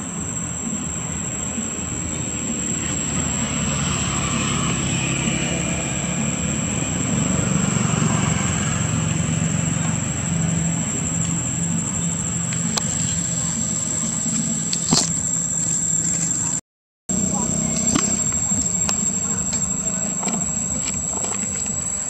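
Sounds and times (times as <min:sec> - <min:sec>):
engine humming: 0:00.0 - 0:22.0
high thin whine: 0:00.0 - 0:22.0.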